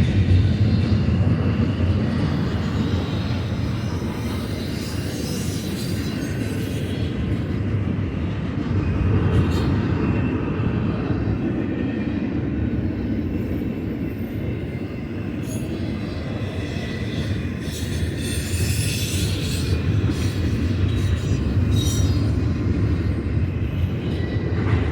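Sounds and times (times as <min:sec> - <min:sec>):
freight train rumbling on rails: 0:00.0 - 0:24.9.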